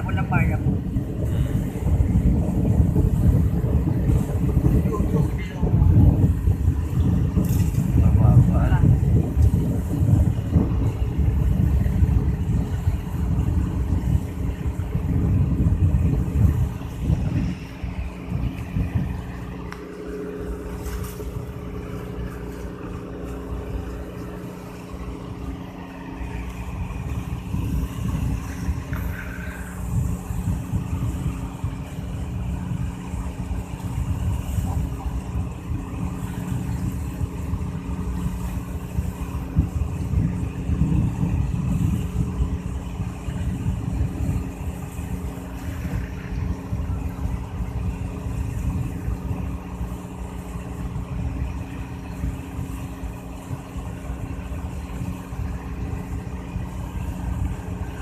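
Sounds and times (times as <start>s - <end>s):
boat engine humming: 0.0s - 58.0s
water rushing along hull: 0.0s - 58.0s.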